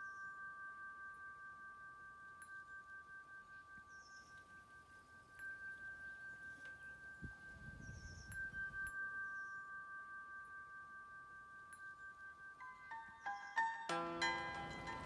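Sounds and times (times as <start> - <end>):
faint bird chirps: 0.0 - 13.9
metal tube wind chimes ringing: 0.0 - 15.0.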